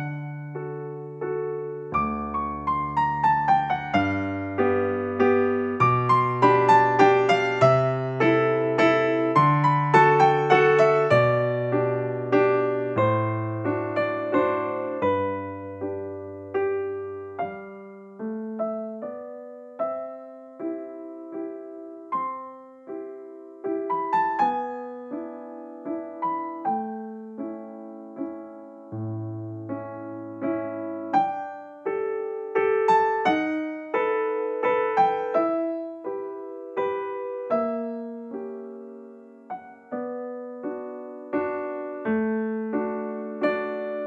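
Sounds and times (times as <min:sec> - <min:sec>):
piano music: 0:00.0 - 0:44.0.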